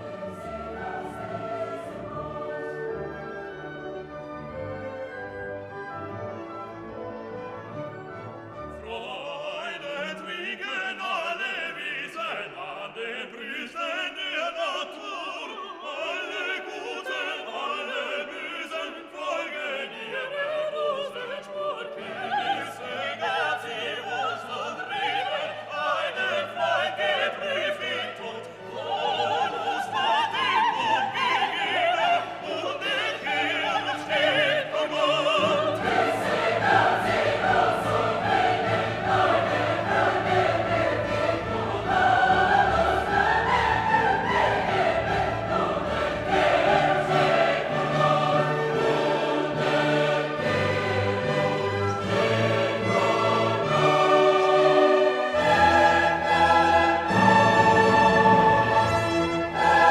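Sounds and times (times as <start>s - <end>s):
operatic singing: 0.0s - 5.9s, 8.5s - 59.9s
orchestra playing classical music: 0.0s - 59.9s.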